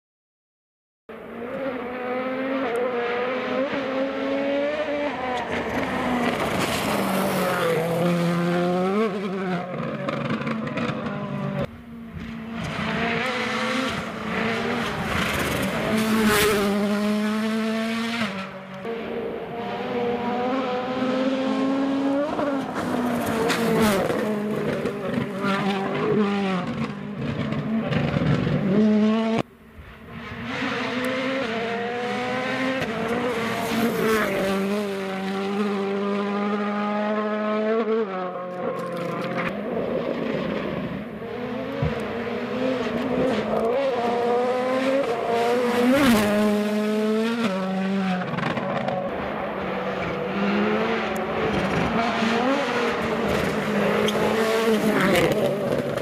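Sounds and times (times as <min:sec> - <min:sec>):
rally car engine revving hard: 0:01.3 - 0:29.5, 0:30.1 - 0:56.0.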